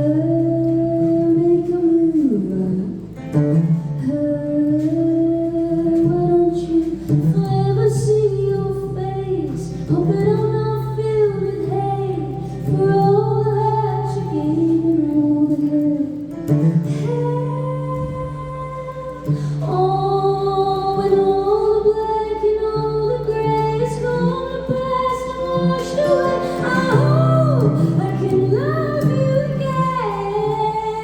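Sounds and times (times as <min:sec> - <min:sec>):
guitar accompaniment: 0:00.0 - 0:31.0
woman singing: 0:00.0 - 0:31.0.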